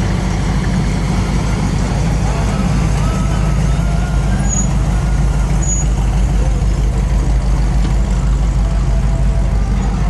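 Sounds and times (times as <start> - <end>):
hot rod engines rumbling: 0.0 - 10.0.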